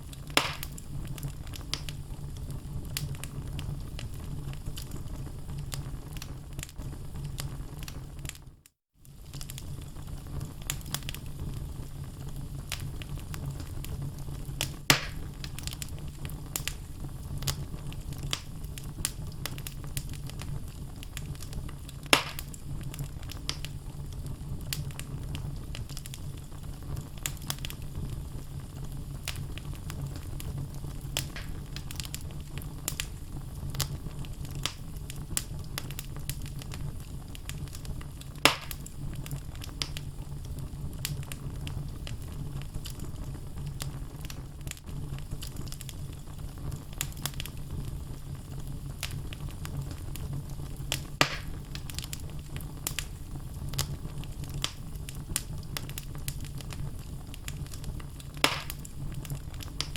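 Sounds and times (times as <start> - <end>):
loud fire pops: 0.0 - 8.4, 9.1 - 59.9
logs crackling in fire: 0.0 - 59.9
low fire rumble: 0.0 - 59.9.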